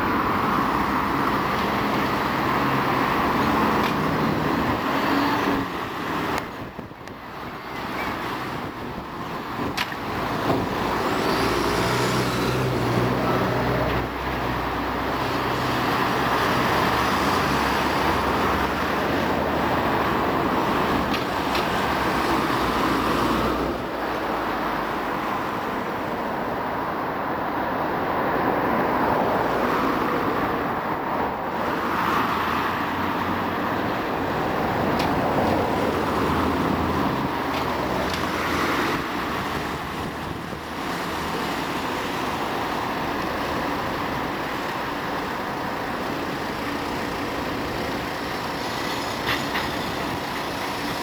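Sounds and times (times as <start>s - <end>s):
street traffic noise: 0.0s - 51.0s
trams passing: 0.0s - 51.0s.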